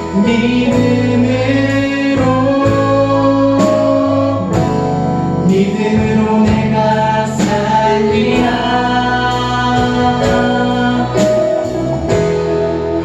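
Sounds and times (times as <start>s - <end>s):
band playing sustained chords: 0.0s - 13.0s
person singing: 0.0s - 13.0s.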